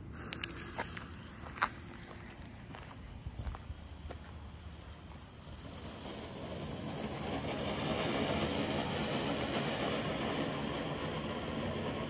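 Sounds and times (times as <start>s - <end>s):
firework fountain rushing: 0.0s - 12.0s.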